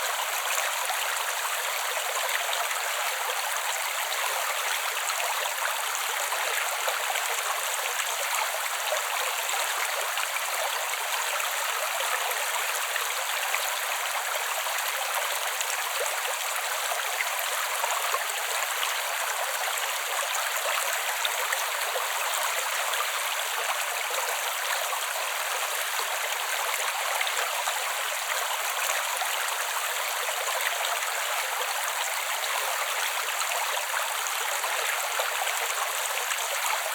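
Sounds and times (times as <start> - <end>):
creek water running: 0.0 - 36.9.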